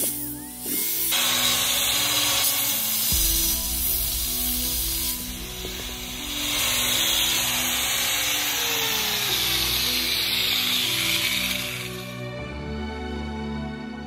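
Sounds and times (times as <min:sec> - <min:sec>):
angle grinder cutting metal mesh: 0:00.0 - 0:12.2
background music: 0:00.0 - 0:14.0.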